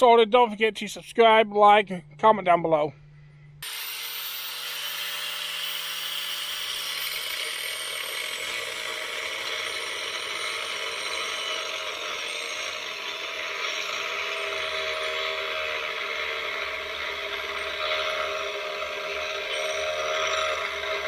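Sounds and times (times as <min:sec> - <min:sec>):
power grinder grinding steel: 0:03.6 - 0:21.0.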